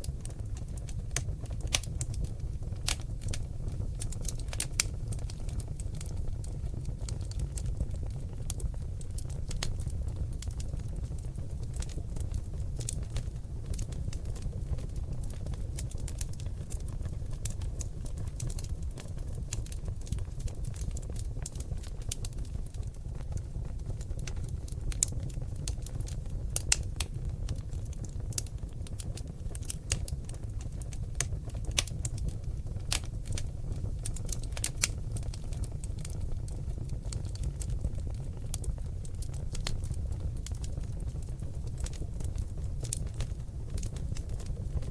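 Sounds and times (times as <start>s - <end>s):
logs crackling and popping: 0.0s - 44.9s
low rumble of flame: 0.0s - 44.9s.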